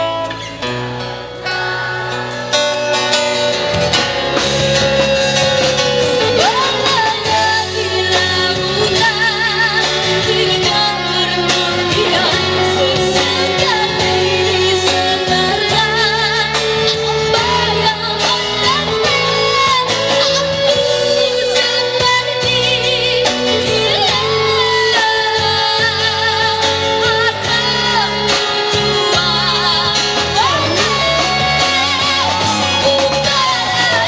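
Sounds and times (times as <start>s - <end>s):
live band playing pop: 0.0s - 34.0s
girl singing lead: 4.4s - 34.0s.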